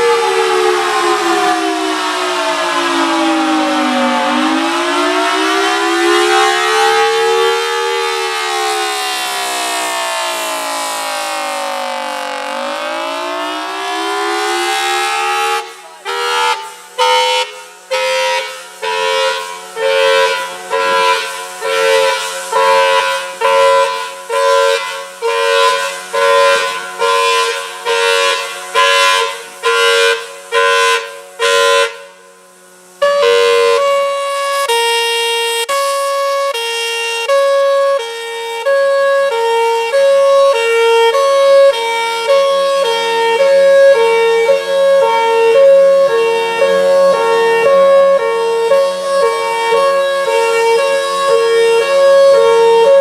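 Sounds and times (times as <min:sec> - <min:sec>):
outdoor warning siren: 0:00.0 - 0:53.0.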